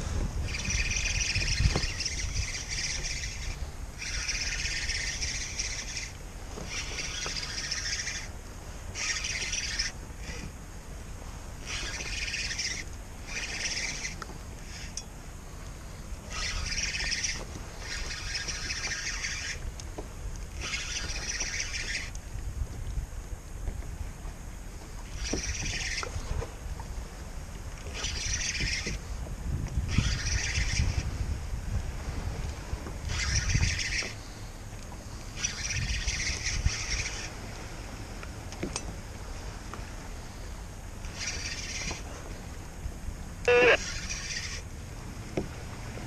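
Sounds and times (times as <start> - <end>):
fishing reel drag buzzing: 0.0 - 23.2, 24.1 - 46.0
low rumble of wind and water: 0.0 - 46.0.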